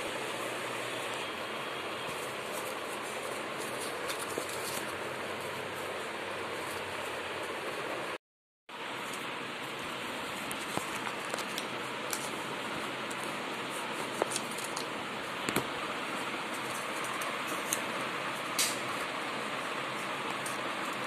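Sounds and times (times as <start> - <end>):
paper being folded by hand: 0.0 - 8.2, 8.8 - 21.0.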